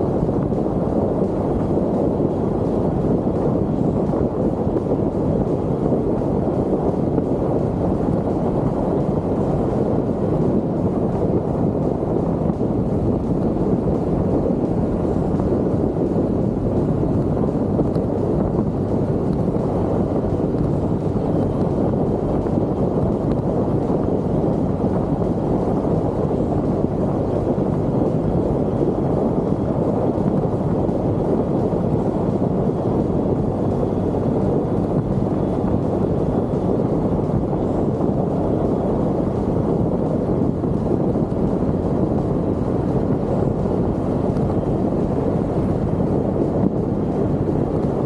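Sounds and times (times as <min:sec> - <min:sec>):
scooter engine running: 0:00.0 - 0:48.0
wind rushing over microphone: 0:00.0 - 0:48.0.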